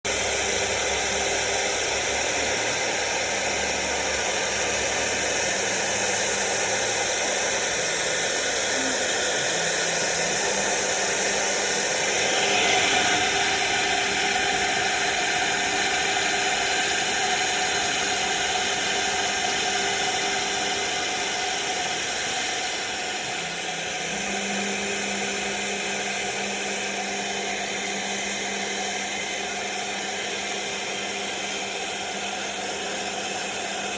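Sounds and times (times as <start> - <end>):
router spindle hissing and whining: 0.1 - 33.9.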